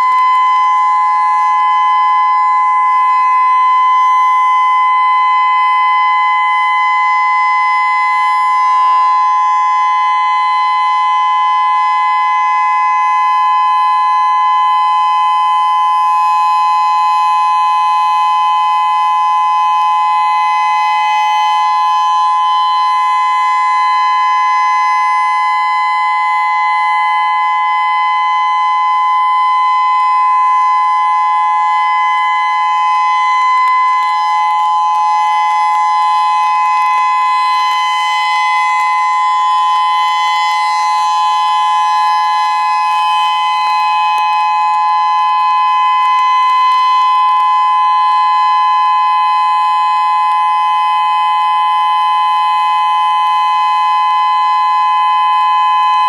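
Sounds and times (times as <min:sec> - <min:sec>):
dual-tone warning siren: 0:00.0 - 0:56.0.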